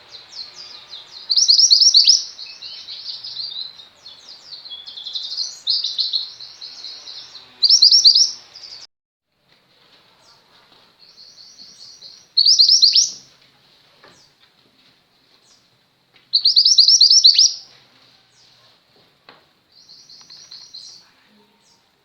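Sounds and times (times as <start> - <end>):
songbird chirping: 0.0 - 8.9, 10.1 - 13.4, 14.0 - 22.0.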